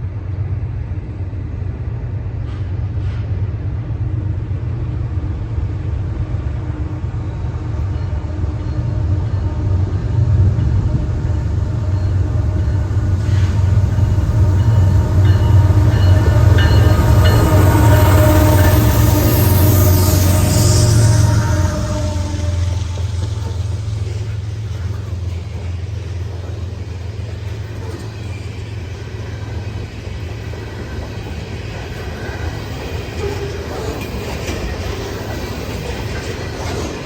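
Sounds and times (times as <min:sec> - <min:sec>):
diesel locomotives rumbling: 0:00.0 - 0:37.0.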